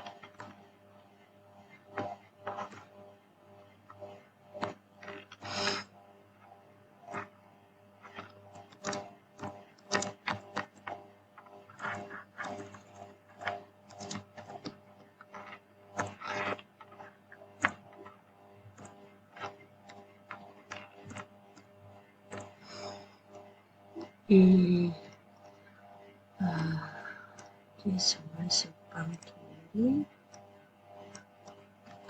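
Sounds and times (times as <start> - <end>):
faint electrical hum: 0.0 - 32.0.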